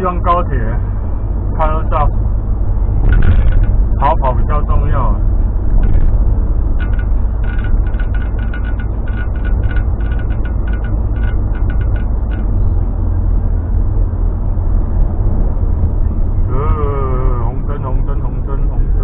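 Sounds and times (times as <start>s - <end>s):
car cabin road rumble: 0.0s - 19.0s.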